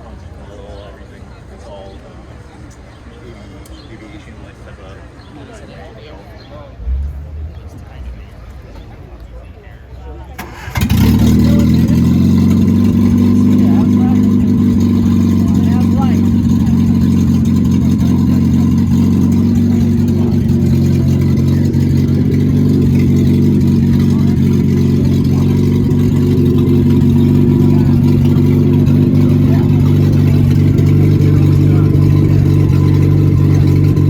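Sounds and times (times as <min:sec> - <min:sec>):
race car engine idling: 0:05.8 - 0:34.0.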